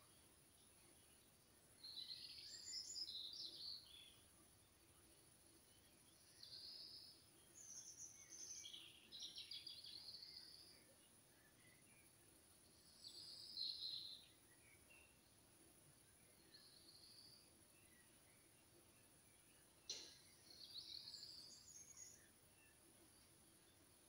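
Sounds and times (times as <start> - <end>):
faint songbird song: 0.0 - 24.0.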